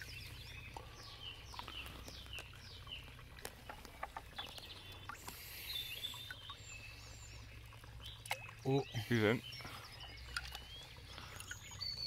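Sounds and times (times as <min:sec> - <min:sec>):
small birds chirping: 0:00.0 - 0:12.0
water dripping and splashing: 0:00.0 - 0:12.0.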